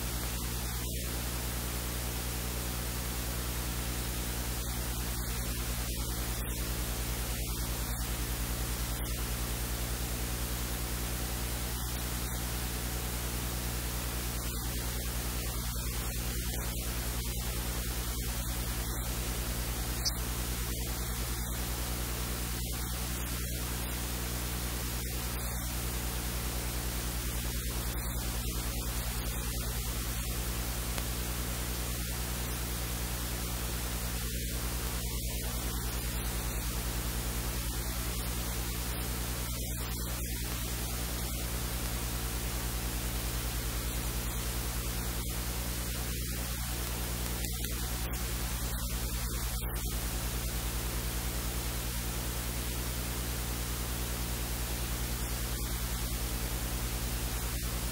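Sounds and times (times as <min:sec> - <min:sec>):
low electrical hum: 0:00.0 - 0:57.9
steady hiss: 0:00.0 - 0:57.9.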